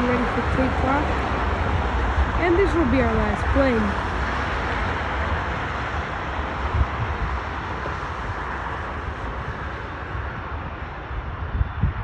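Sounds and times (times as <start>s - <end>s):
distant jet engines rushing: 0.0s - 12.0s.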